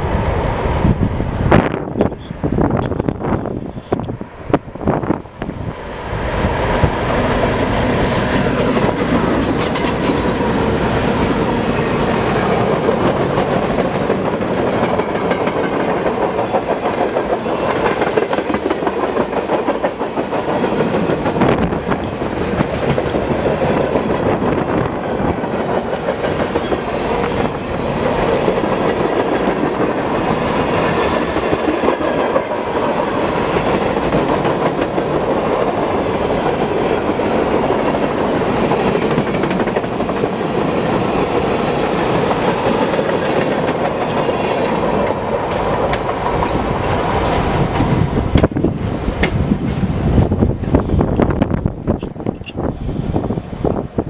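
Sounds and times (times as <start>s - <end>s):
train wheels clicking over rail joints: 4.0s - 53.8s.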